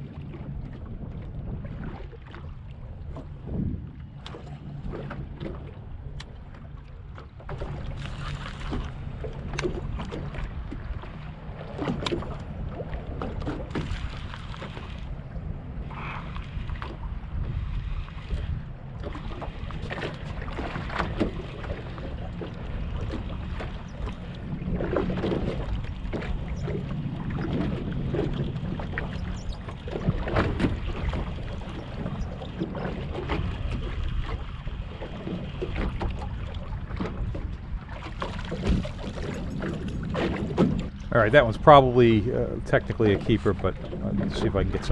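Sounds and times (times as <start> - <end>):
wind buffeting microphone: 0.0 - 6.7, 7.6 - 44.9
water slapping boat hull: 0.0 - 44.9.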